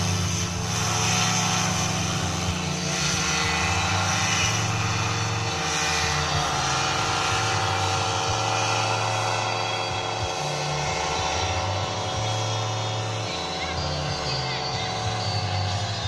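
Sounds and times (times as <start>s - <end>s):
paramotor engine and propeller: 0.0s - 16.0s.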